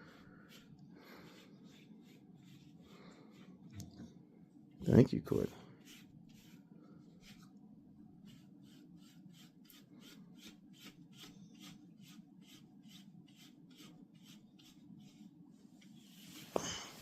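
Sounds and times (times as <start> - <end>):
brush strokes on dog fur: 0.0 - 3.6, 4.9 - 7.6, 8.2 - 17.0.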